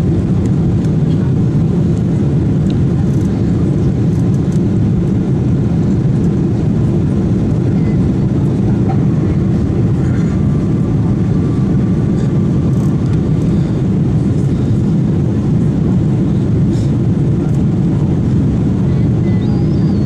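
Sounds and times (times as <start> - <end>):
jet engine drone in cabin: 0.0 - 20.0.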